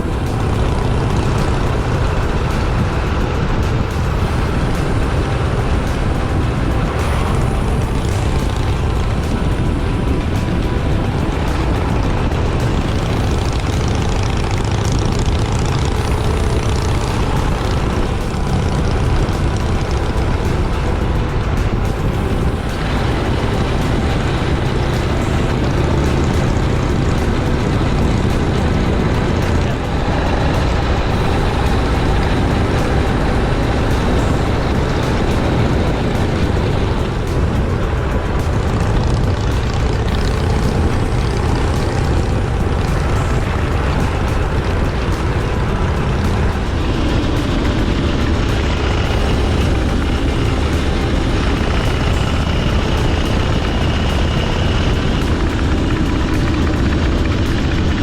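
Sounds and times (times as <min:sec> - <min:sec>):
motorcycle engine: 0:00.0 - 0:58.0
wind noise: 0:00.0 - 0:58.0.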